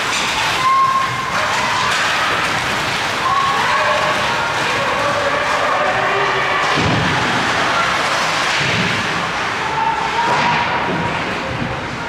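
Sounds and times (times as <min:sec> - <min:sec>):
skates scraping ice: 0:00.0 - 0:11.9
spectators' voices: 0:00.0 - 0:12.0.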